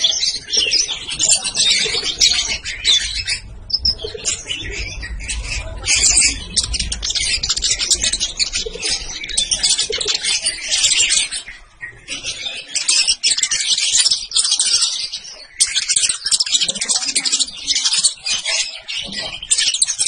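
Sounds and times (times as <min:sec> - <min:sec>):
sunbirds twittering: 0:00.0 - 0:20.0.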